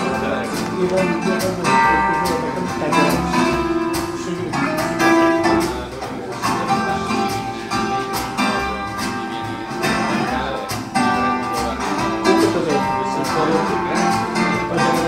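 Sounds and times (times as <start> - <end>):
acoustic guitar music over loudspeakers: 0.0 - 15.0.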